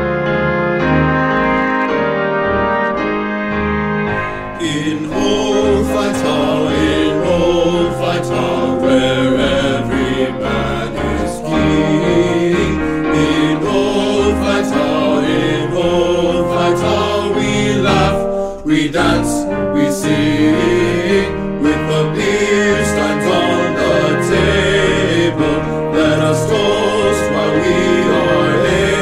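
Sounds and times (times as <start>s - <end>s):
piano: 0.0s - 29.0s
choir singing: 4.1s - 29.0s.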